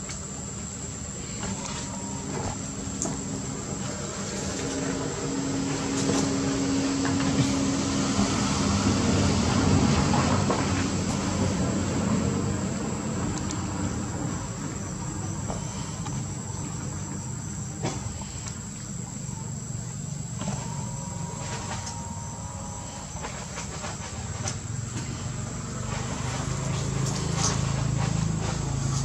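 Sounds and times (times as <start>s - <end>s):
high-pitched whine: 0.0s - 29.0s.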